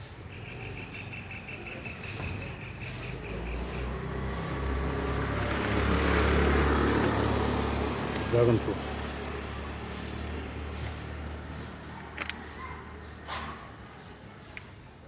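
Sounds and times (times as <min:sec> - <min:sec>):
truck engine rumble passing: 0:00.2 - 0:14.5.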